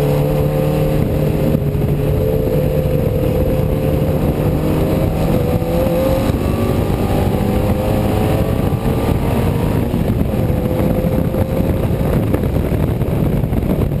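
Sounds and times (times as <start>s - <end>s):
race car engine running: 0.0s - 14.0s
road and wind noise: 0.0s - 14.0s.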